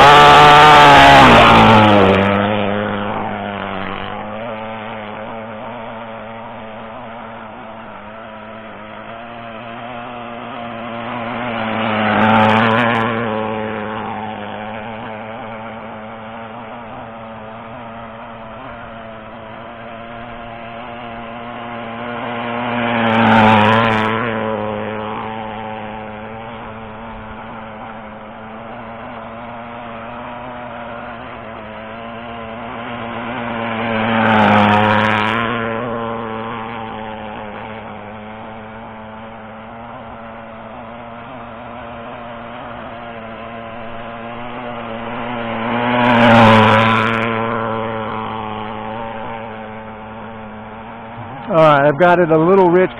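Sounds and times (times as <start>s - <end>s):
model boat engine running: 0.0s - 52.9s.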